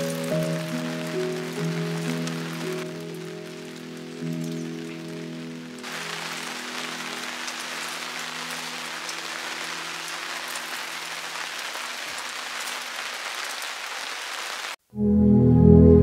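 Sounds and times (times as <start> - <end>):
rain pattering: 0.0 - 14.8.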